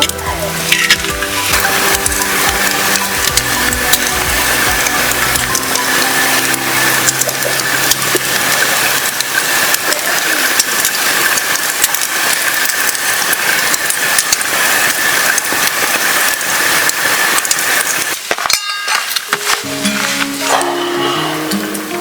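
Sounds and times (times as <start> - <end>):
food sizzling in a hot pan: 0.0 - 22.0.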